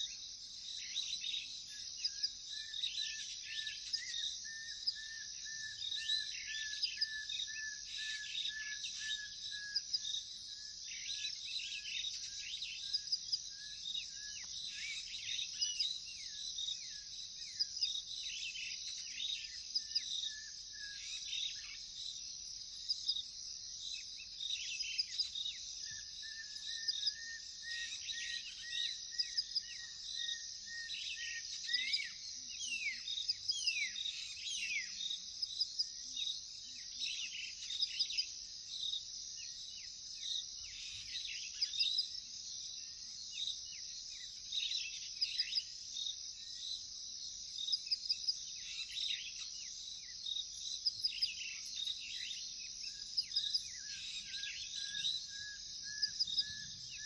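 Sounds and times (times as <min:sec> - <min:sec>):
cricket chorus: 0:00.0 - 0:57.0.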